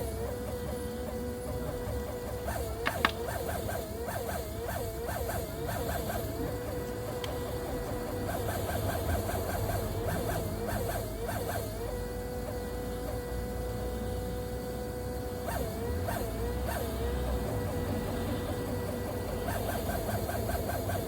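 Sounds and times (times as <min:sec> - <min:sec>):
high-pitched chirping whine: 0:00.0 - 0:21.0.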